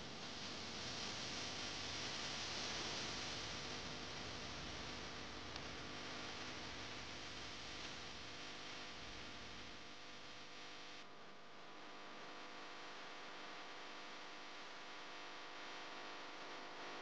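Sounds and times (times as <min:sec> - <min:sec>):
faint steady hum and hiss: 0:00.0 - 0:17.0.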